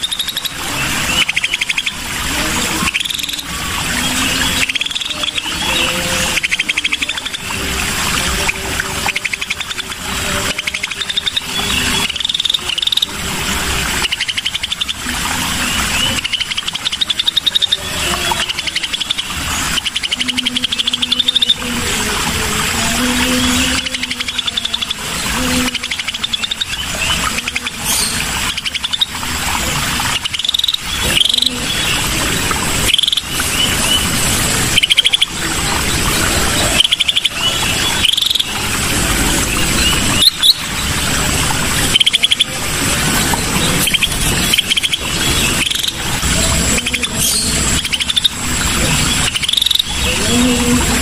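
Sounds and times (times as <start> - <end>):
bird trilled calls: 0.0 - 51.0.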